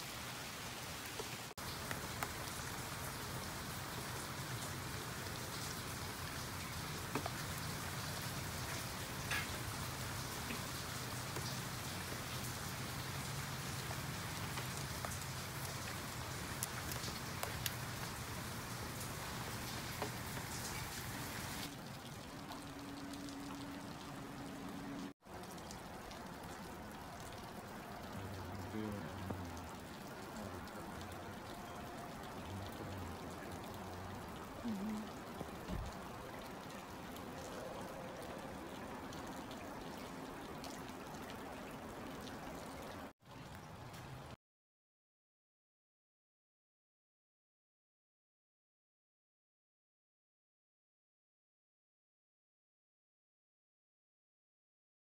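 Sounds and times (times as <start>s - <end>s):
steady rain falling: 0.0s - 44.4s
raindrops ticking close by: 0.1s - 44.4s.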